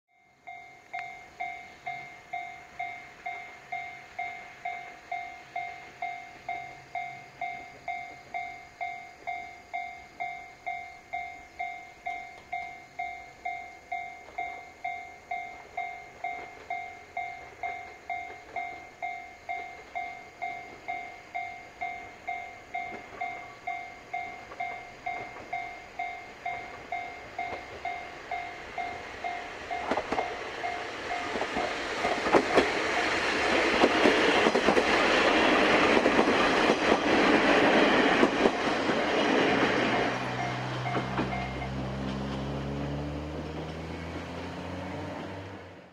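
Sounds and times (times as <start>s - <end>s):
level crossing alarm ringing: 0.1s - 37.0s, 37.6s - 42.0s
train engine and wheel noise: 0.2s - 45.9s.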